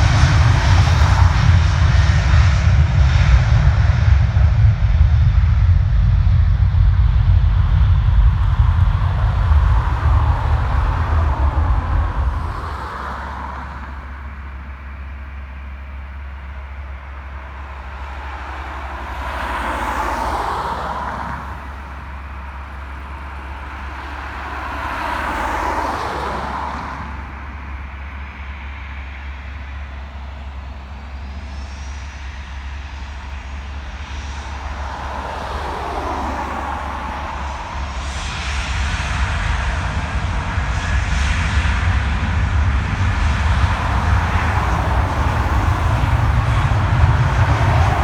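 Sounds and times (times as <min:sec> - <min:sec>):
low rumble: 0:00.0 - 0:48.0
vehicles passing: 0:00.0 - 0:48.0.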